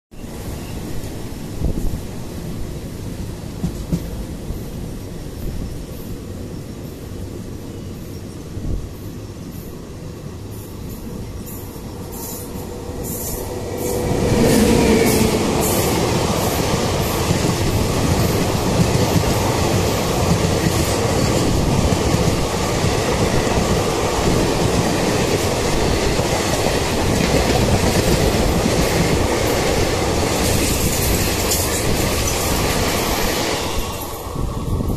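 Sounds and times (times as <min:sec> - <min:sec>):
train rushing past: 0:00.2 - 0:34.9.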